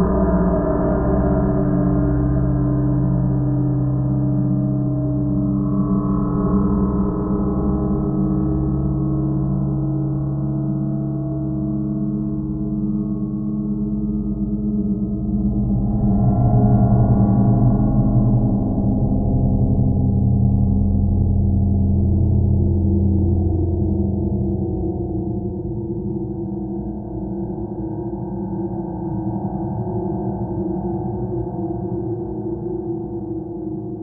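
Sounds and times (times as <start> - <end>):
ambient drone music: 0.0 - 34.0.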